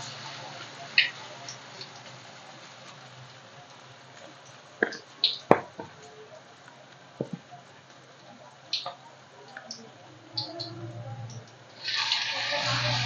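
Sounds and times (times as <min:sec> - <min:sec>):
food sizzling in hot oil: 0:00.0 - 0:09.0, 0:09.6 - 0:13.0.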